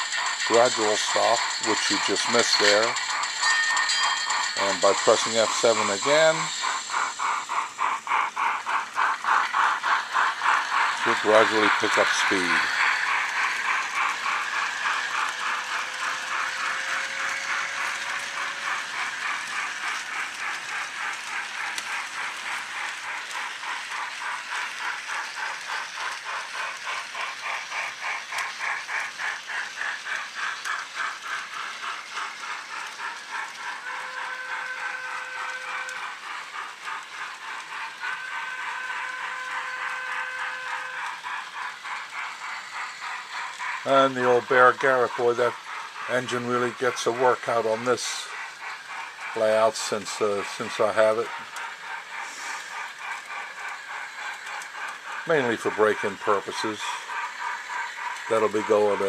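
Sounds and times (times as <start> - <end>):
model steam locomotive chuffing: 0.0 - 59.0
model train rattling on track: 0.0 - 59.0.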